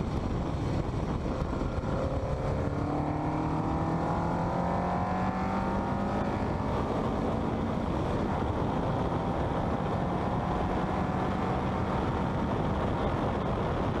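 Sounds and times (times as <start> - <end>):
car engine drone: 0.0 - 14.0
wind and road noise: 0.0 - 14.0.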